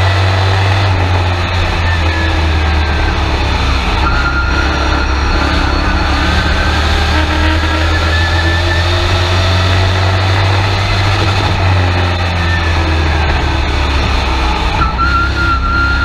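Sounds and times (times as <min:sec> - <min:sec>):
truck engine running hard: 0:00.0 - 0:16.0.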